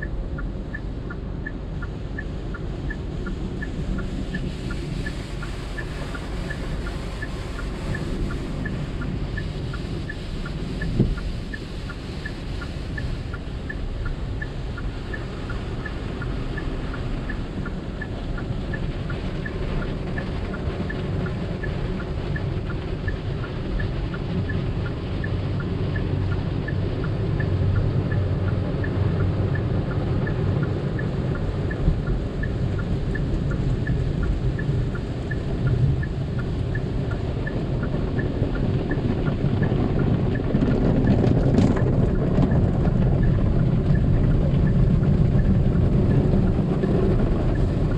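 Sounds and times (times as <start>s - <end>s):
car wash rumbling: 0.0s - 47.9s
light even ticking: 0.0s - 47.9s.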